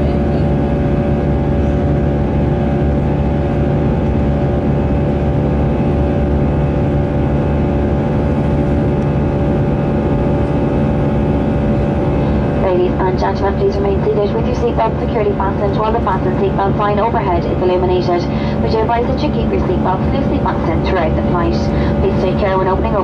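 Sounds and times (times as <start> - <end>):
jet engines droning: 0.0 - 23.0
low cabin rumble: 0.0 - 23.0
whining engine tones: 0.0 - 23.0.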